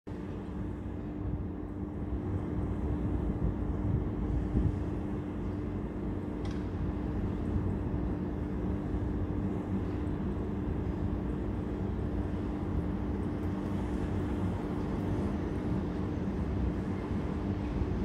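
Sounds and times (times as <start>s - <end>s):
locomotive hum: 0.2s - 18.0s.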